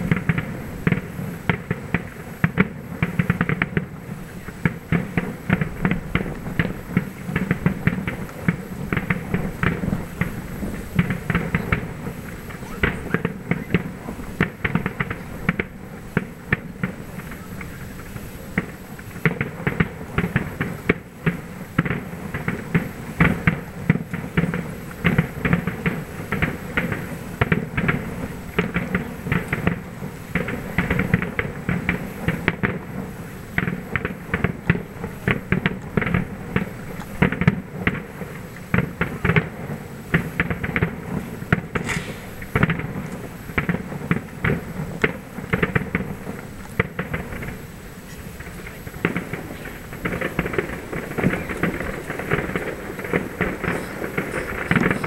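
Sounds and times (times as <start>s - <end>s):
distant fireworks bursting: 0.0s - 55.0s.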